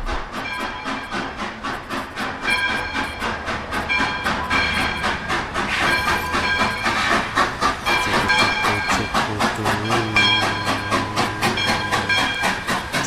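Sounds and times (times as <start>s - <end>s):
train wheels clicking on rails: 0.0s - 13.0s.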